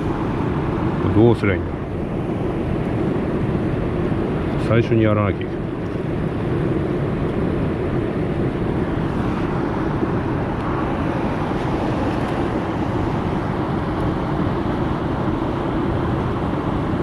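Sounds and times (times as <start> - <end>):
steady low rushing noise: 0.0 - 16.1.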